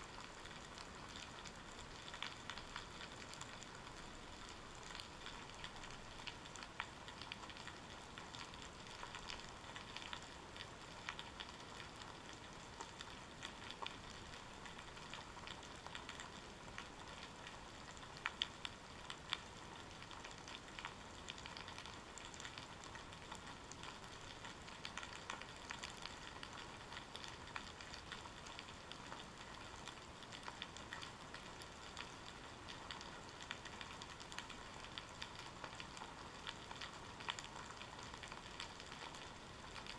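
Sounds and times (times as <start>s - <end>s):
underwater crackling and clicking: 0.1s - 39.9s.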